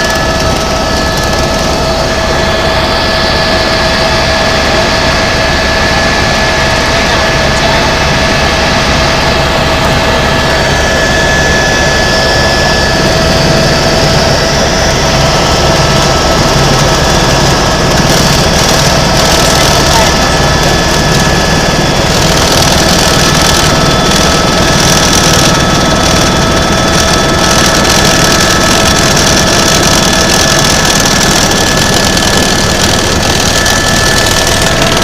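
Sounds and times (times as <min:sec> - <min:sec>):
helicopter engine and rotor: 0:00.0 - 0:35.0.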